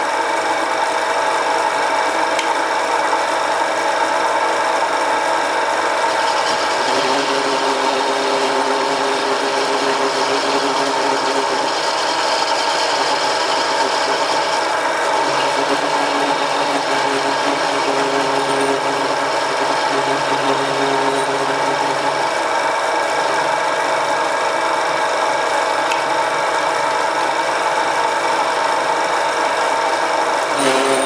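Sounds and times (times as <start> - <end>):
lathe whirring: 0.0 - 31.0.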